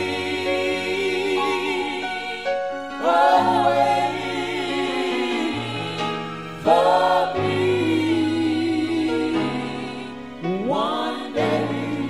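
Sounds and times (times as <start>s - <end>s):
gospel singing: 0.0s - 12.0s.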